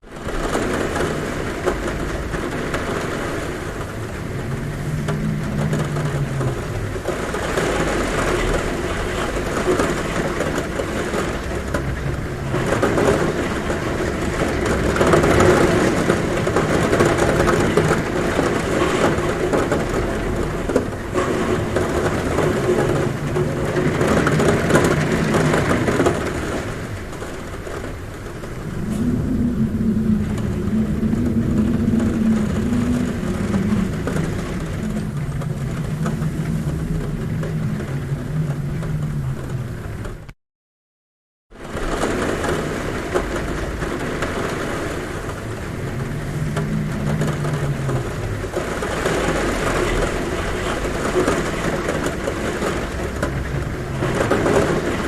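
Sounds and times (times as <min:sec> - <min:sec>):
heavy rain on a roof: 0:00.0 - 0:40.4, 0:41.5 - 0:55.0
wind humming at window: 0:00.0 - 0:40.4, 0:41.6 - 0:55.0.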